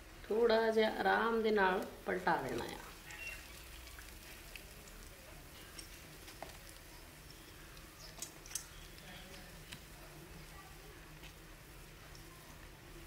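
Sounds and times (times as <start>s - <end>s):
bread frying in oil: 0.0s - 13.0s
oil popping: 1.6s - 12.8s.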